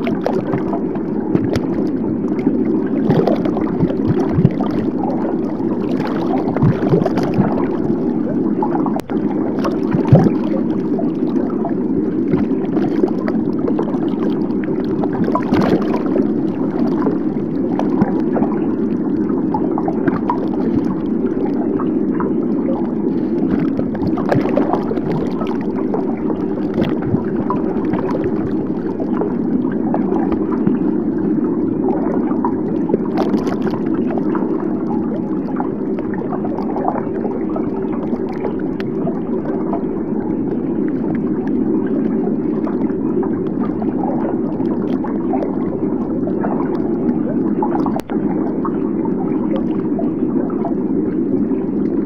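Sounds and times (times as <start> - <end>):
water rushing and gurgling: 0.0 - 52.0.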